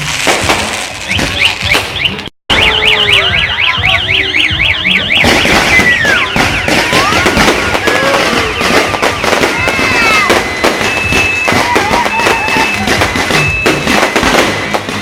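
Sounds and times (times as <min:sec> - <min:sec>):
firework whistles: 0:00.0 - 0:15.0
fireworks crackling and banging: 0:00.0 - 0:15.0
shrill warbling tone: 0:01.2 - 0:14.0.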